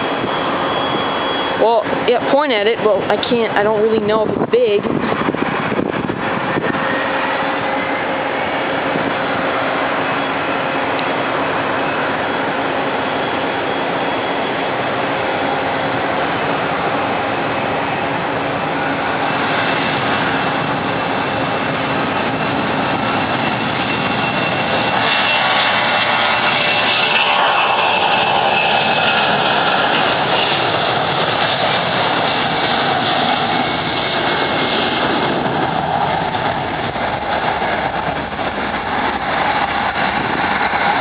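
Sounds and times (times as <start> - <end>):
faint engine whine: 0.0 - 41.0
jet engines roaring: 0.0 - 41.0.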